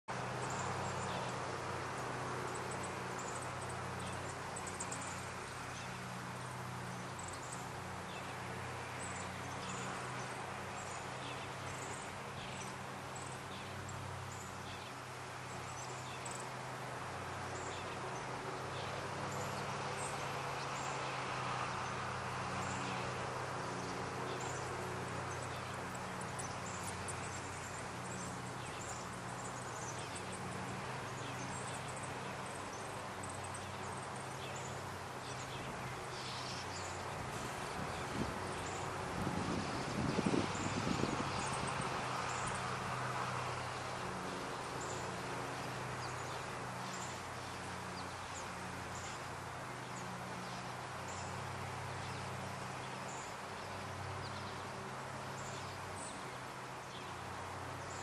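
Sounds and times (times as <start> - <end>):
small birds chirping: 0.1 - 58.0.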